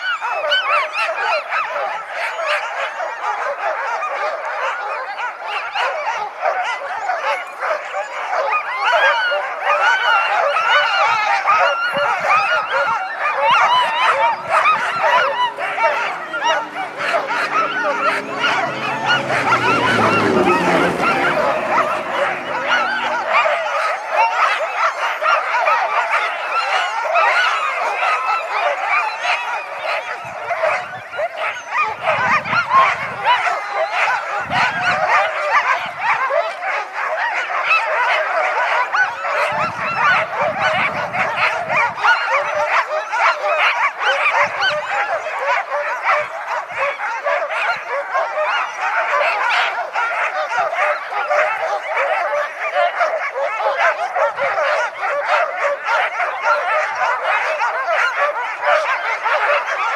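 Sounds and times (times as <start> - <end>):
huskies barking and howling: 0.0 - 59.9.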